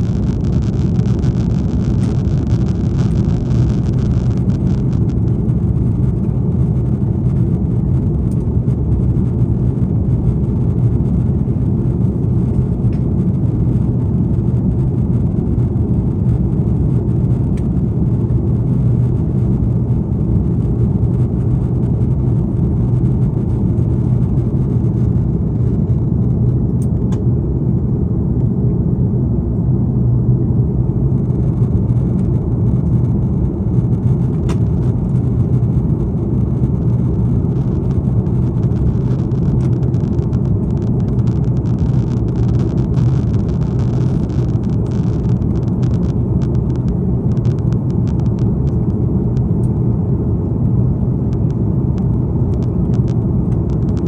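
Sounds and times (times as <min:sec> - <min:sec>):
cabin airflow: 0:00.0 - 0:54.0
jet engines rumbling: 0:00.0 - 0:54.0.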